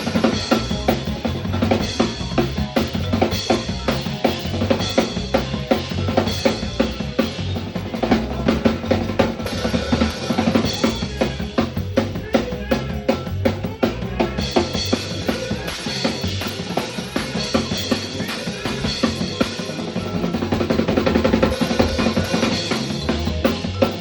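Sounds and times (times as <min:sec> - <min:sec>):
bass line: 0:00.0 - 0:24.0
drum kit kick and snare: 0:00.0 - 0:24.0
live band instrumental jam: 0:00.0 - 0:24.0.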